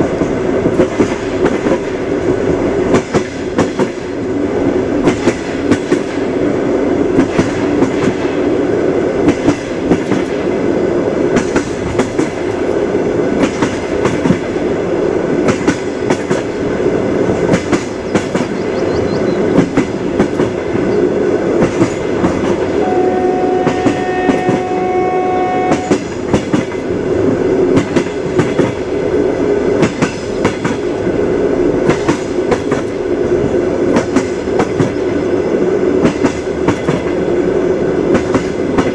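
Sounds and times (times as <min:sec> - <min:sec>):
train wheels clattering: 0:00.0 - 0:04.3, 0:05.0 - 0:06.4, 0:07.1 - 0:08.6, 0:09.2 - 0:10.6, 0:11.3 - 0:14.7, 0:15.3 - 0:25.0, 0:25.6 - 0:27.0, 0:27.7 - 0:29.0, 0:29.7 - 0:31.0, 0:31.8 - 0:37.3, 0:38.0 - 0:38.9.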